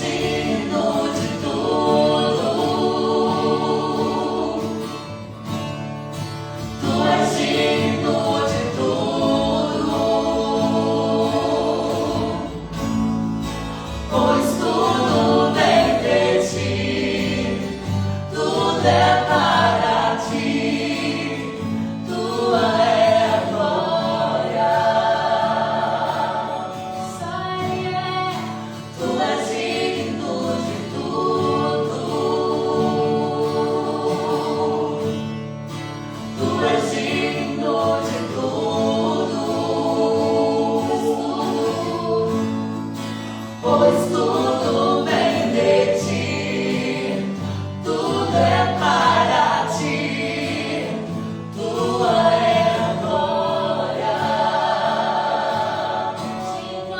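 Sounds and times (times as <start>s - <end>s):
group singing worship song: 0.0s - 56.9s.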